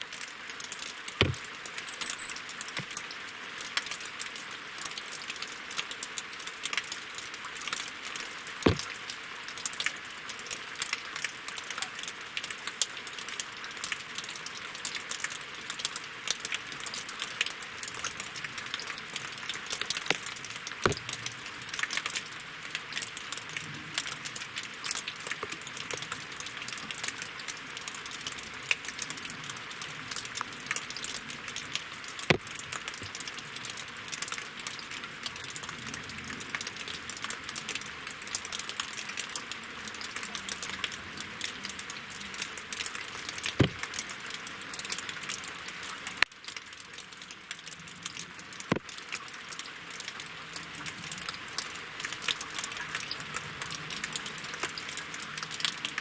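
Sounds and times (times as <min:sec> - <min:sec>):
heavy raindrops striking: 0:00.0 - 0:56.0
rain pattering on water and wood: 0:00.0 - 0:56.0.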